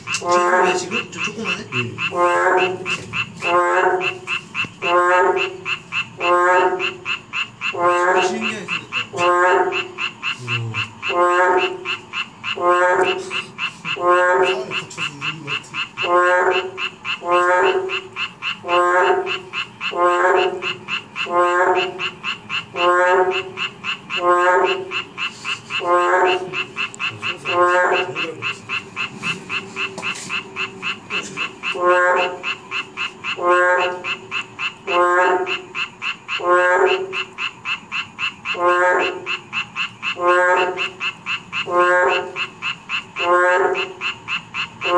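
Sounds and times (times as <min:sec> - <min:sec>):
chorus of frogs pulsing: 0:00.0 - 0:44.9
frog croaking loudly: 0:00.0 - 0:44.9.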